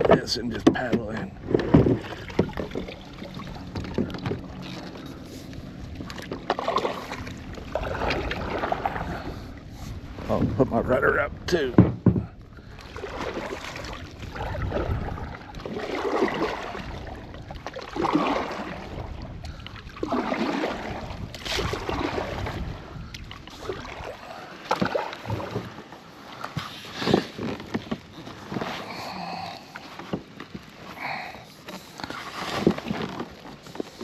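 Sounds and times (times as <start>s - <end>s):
kayak paddle splashing in water: 0.8s - 10.6s, 11.8s - 34.0s.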